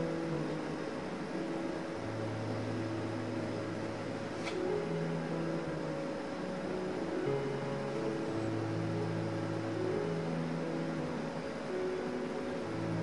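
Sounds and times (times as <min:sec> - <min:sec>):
slow music of long held notes: 0:00.0 - 0:13.0
steady hiss: 0:00.0 - 0:13.0.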